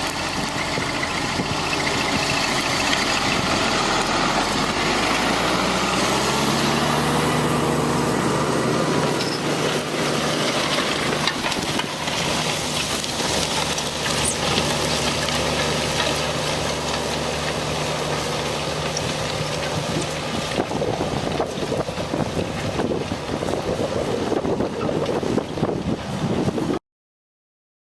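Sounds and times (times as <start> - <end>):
tractor diesel engine running: 0.0 - 26.8.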